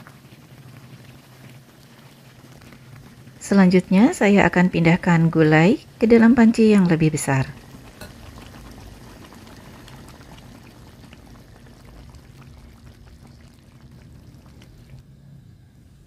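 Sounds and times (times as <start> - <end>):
curry bubbling with pops: 0.0 - 15.0.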